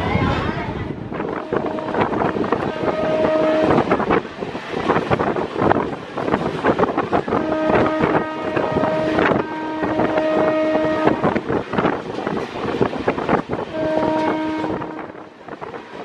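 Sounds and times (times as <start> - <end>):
electric train clattering: 0.0 - 16.0
wind on microphone: 0.0 - 16.0.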